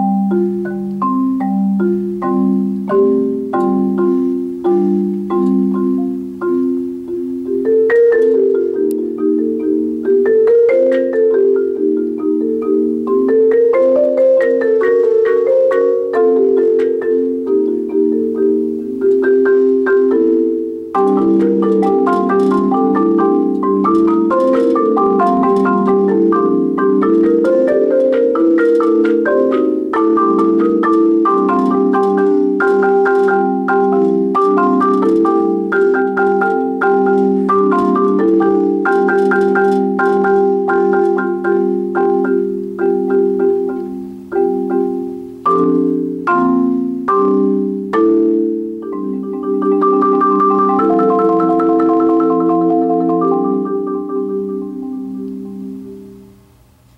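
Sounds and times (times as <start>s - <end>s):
solo marimba: 0.0s - 56.9s.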